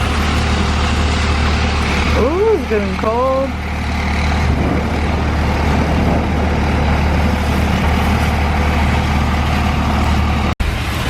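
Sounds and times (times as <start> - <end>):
strong storm wind blowing: 0.0 - 11.0.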